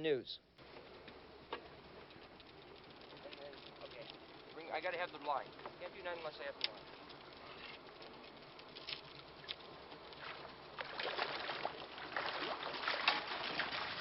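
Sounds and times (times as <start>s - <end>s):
water lapping against boat hull: 0.6s - 14.0s.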